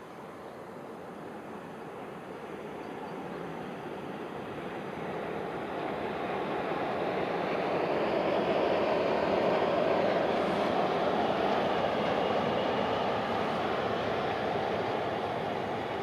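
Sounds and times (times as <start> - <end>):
train rushing at speed: 0.0 - 16.0.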